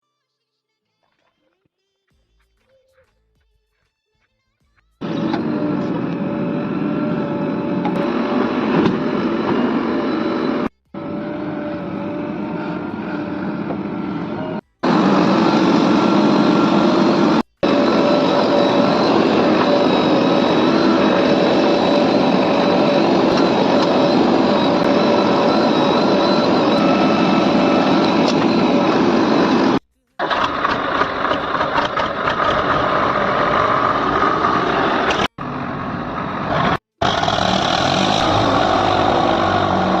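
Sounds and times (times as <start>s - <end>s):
diesel engine running: 5.0s - 40.0s.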